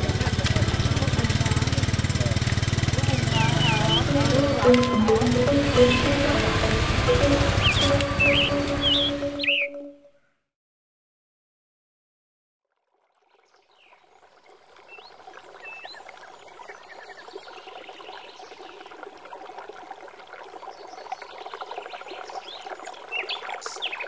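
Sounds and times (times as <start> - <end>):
water trickling: 0.0 - 9.4, 12.7 - 24.0.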